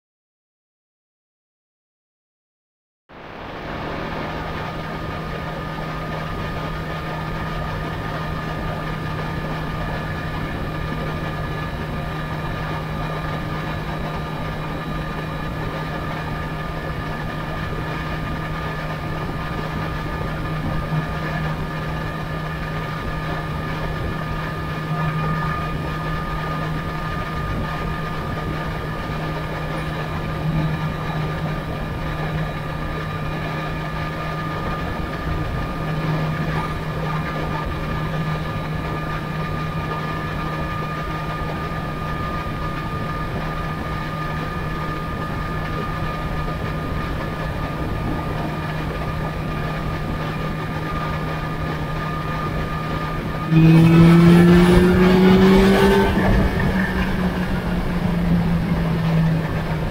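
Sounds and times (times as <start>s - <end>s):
motorcycle engine drone: 3.1s - 59.9s
wind and road noise: 3.1s - 59.9s.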